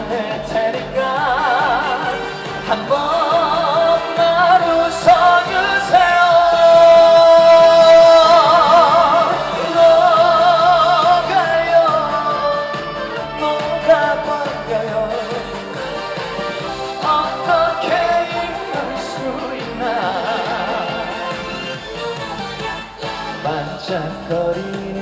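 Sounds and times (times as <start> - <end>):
band playing: 0.0 - 25.0
person singing with vibrato: 0.0 - 25.0.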